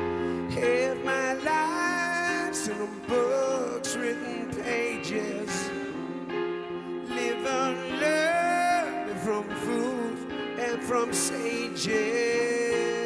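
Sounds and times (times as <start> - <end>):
instrumental accompaniment: 0.0 - 13.0
man singing a rock ballad: 0.0 - 13.0.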